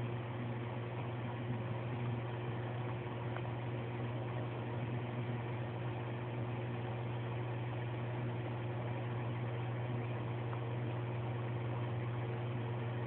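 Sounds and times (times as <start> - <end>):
aquarium equipment humming: 0.0 - 13.0.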